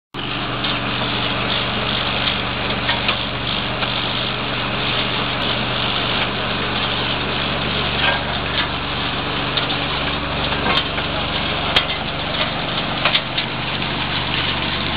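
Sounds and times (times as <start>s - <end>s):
motor hum: 0.2s - 14.9s
rushing rattling water wash: 0.5s - 14.9s.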